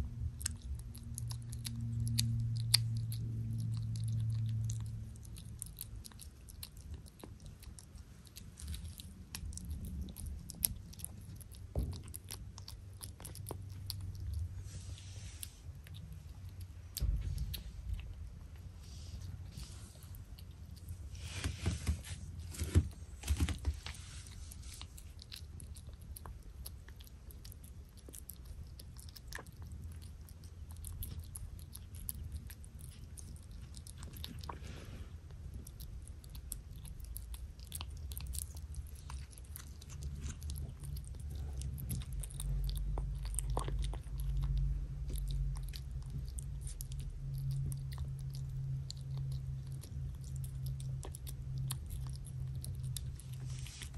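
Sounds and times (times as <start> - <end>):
kitten chewing wet food: 0.0 - 53.9
low hum: 0.0 - 53.9.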